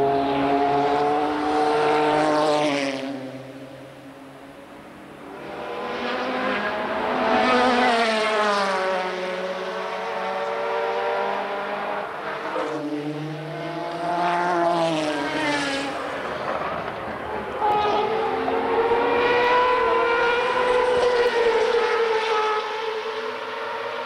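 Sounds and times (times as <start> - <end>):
race cars passing at speed: 0.0 - 24.0.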